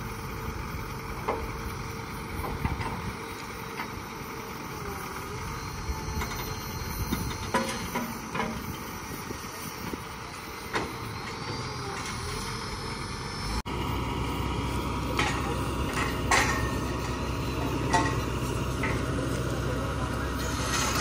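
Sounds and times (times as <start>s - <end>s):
drilling rig engine running: 0.0s - 21.0s.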